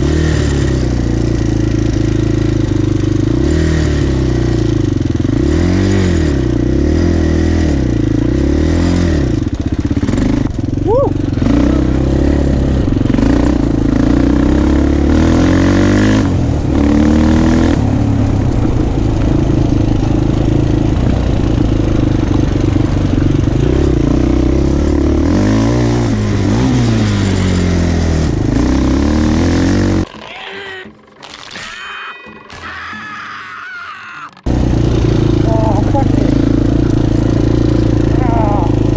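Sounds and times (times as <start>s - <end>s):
quad bike engine revving: 0.0s - 31.5s, 33.6s - 38.9s.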